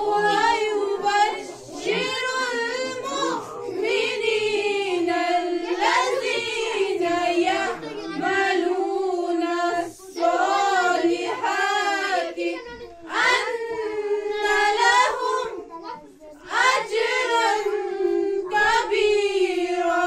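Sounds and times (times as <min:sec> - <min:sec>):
children singing a religious chant: 0:00.0 - 0:20.0.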